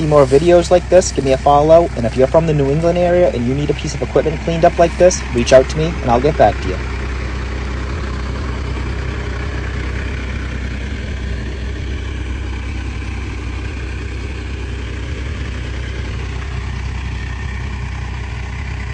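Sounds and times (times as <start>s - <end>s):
backhoe engine idling: 0.0s - 18.9s.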